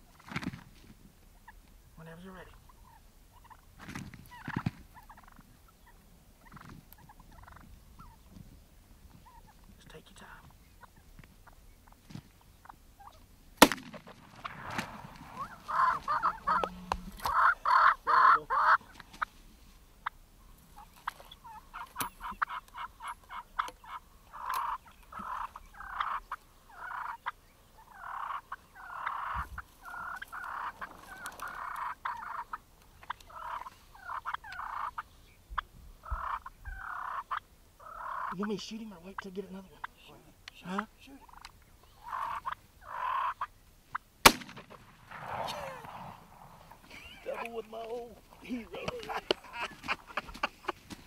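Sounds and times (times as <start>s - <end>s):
turkeys gobbling: 1.3s - 8.3s, 9.1s - 9.7s, 10.4s - 19.3s, 20.0s - 51.0s.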